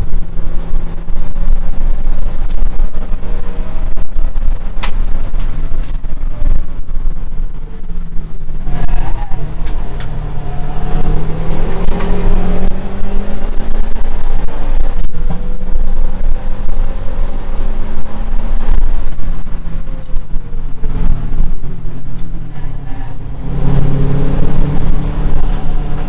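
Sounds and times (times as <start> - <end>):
car engine running hard: 0.0 - 26.0
road and wind noise: 0.0 - 26.0.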